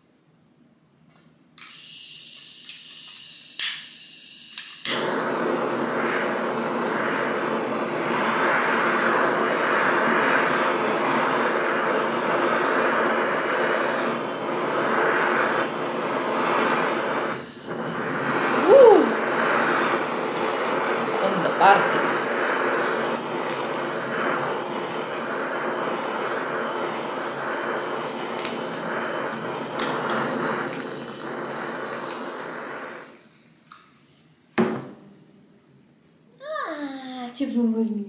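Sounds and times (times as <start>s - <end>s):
blowtorch flame running: 1.6s - 33.4s
gas hissing: 1.6s - 33.8s.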